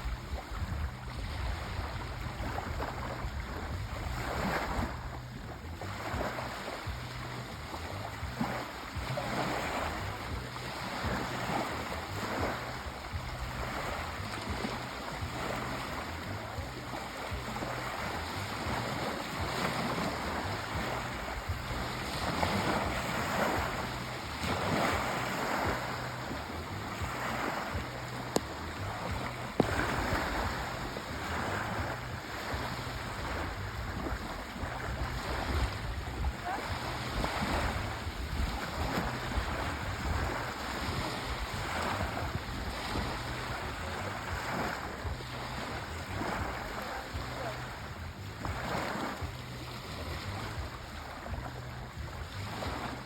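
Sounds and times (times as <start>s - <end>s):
sea waves washing onto shore: 0.0s - 53.0s.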